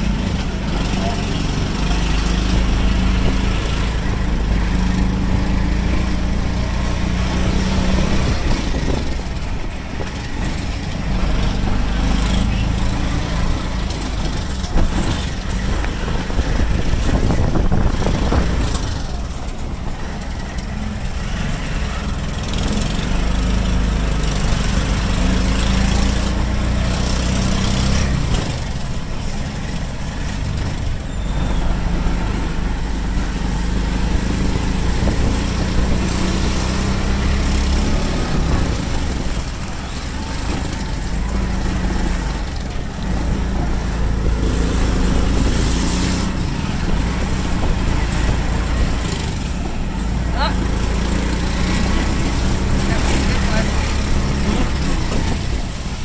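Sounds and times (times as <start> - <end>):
auto-rickshaw engine hum: 0.0 - 56.0
road rattle: 0.0 - 56.0.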